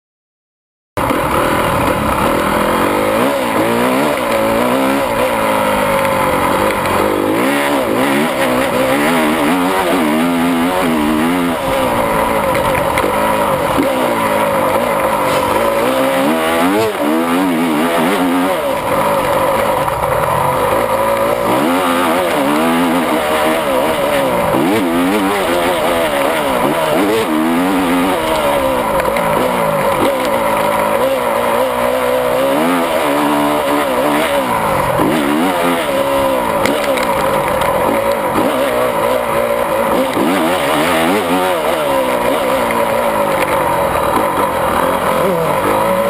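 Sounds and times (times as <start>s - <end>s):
motocross bike engine revving: 1.0s - 46.0s.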